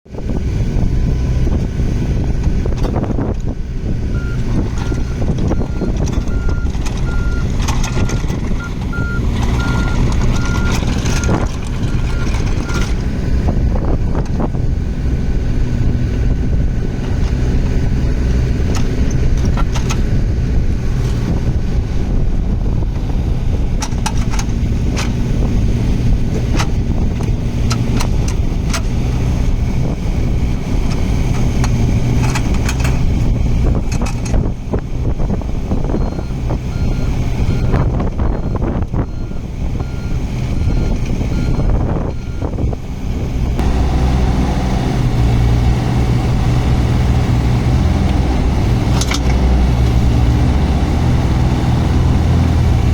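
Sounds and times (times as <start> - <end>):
diesel excavator engine running: 0.1 - 52.9.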